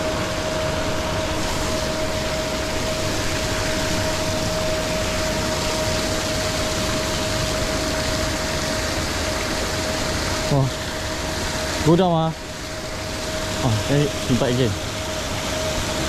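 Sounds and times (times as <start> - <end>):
churned water rushing: 0.0 - 16.0
pond aerator motor hum: 0.0 - 16.0
thin steady whine: 0.0 - 16.0.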